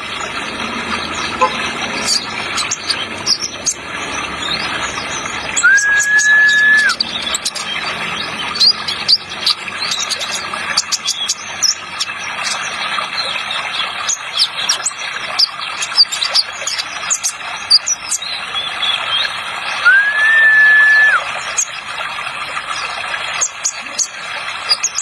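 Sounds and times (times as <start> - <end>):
running water hiss: 0.0 - 25.0.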